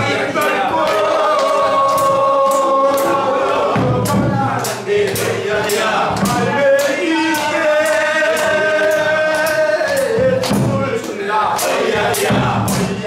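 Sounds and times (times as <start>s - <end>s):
barrel drum beats: 0.0s - 13.0s
group singing in chorus: 0.0s - 13.0s.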